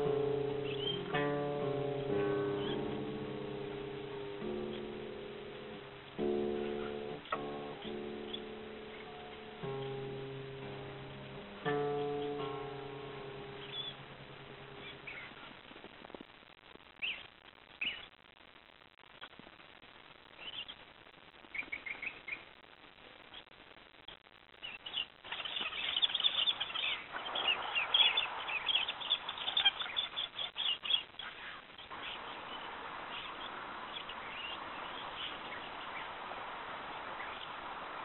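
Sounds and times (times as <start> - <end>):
small birds chirping: 0.0 - 16.2, 16.9 - 18.2, 20.2 - 38.0
steady hiss: 0.0 - 38.0.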